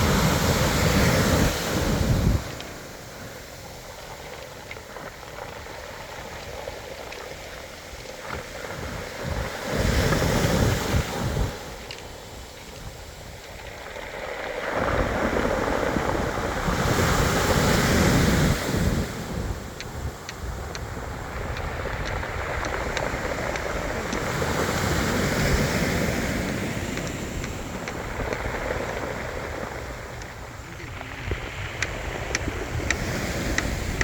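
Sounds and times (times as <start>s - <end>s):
waves on a pebble beach: 0.0s - 34.0s
wind buffeting microphone: 0.0s - 34.0s.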